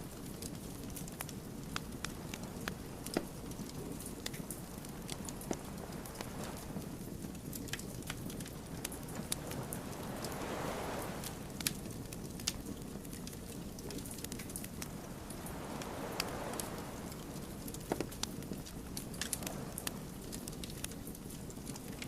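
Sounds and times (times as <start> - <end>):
wood fire crackling: 0.0 - 22.0
flames rushing: 0.2 - 22.0.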